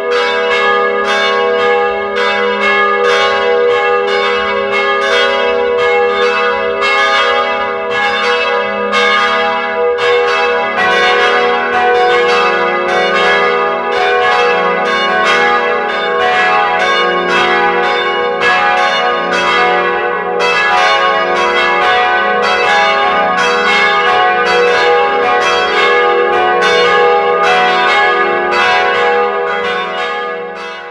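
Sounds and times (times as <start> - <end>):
church bells ringing: 0.0 - 30.9.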